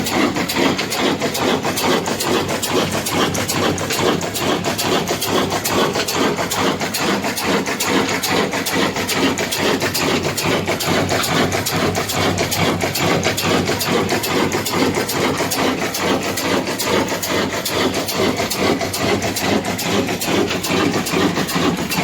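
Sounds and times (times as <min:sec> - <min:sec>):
diesel engine knocking: 0:00.0 - 0:22.0.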